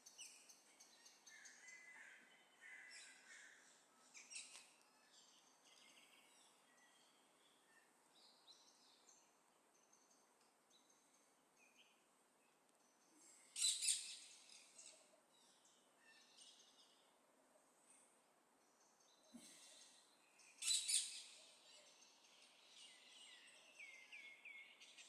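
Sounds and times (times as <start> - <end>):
small birds chirping: 0.0 - 17.2, 18.0 - 25.0.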